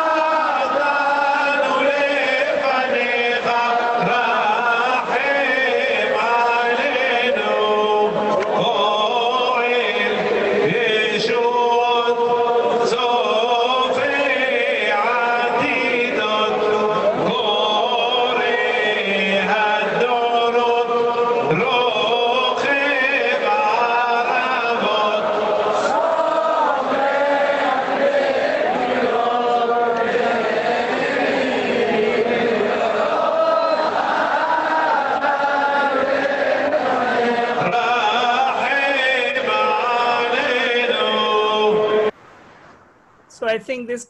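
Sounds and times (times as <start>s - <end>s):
crowd chanting prayers in unison: 0.0s - 42.2s.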